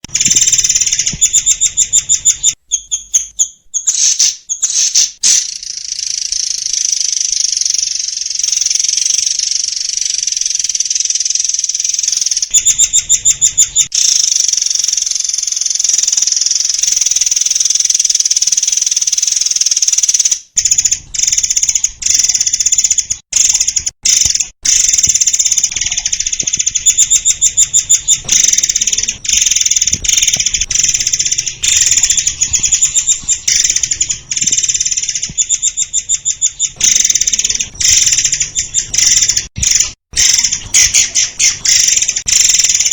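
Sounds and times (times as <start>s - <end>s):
songbird singing rapid trills: 0.1s - 42.9s.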